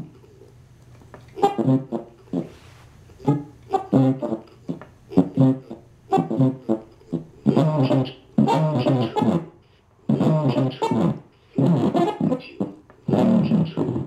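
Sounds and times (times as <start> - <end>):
buzzy horn-like toy phrases: 1.4 - 2.6, 3.2 - 9.5, 10.1 - 14.0.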